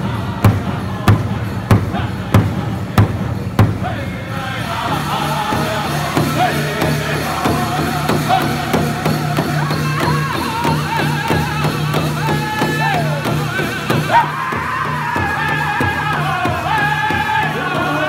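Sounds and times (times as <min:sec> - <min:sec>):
large drum beating fast: 0:00.0 - 0:18.0
men singing in high voices: 0:00.0 - 0:18.0.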